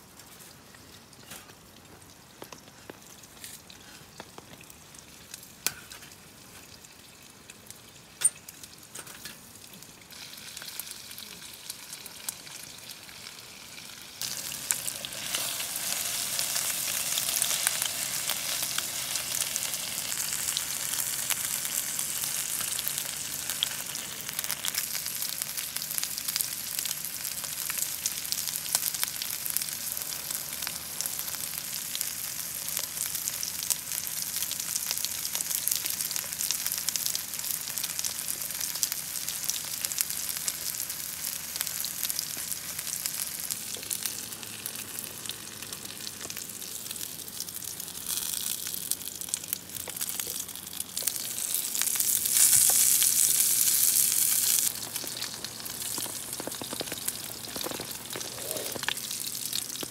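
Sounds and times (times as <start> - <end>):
meat sizzling in a frying pan: 9.4 - 59.9.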